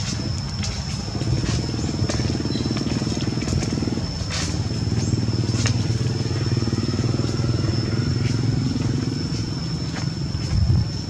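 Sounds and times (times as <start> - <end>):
small engine running: 0.0 - 10.6.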